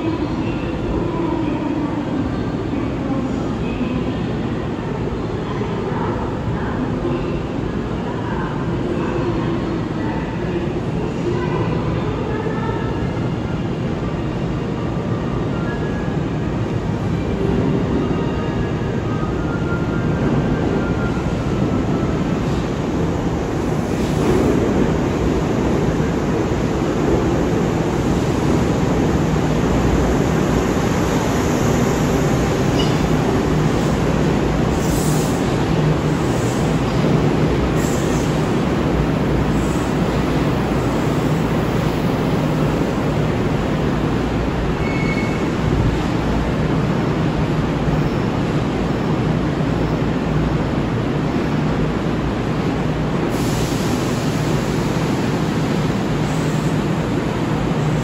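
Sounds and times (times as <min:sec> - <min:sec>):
high squeal of train: 0:00.0 - 0:58.0.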